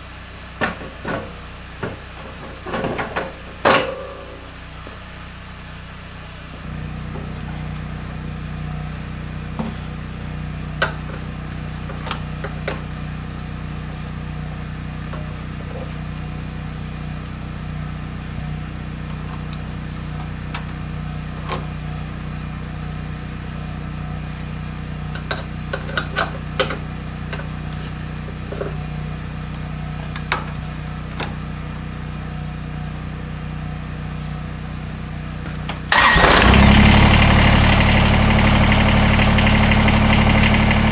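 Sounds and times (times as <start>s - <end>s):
engine humming: 0.0s - 40.9s.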